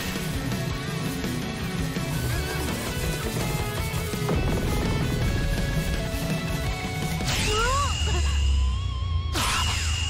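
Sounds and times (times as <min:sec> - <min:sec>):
bass-heavy background music: 0:00.0 - 0:10.0.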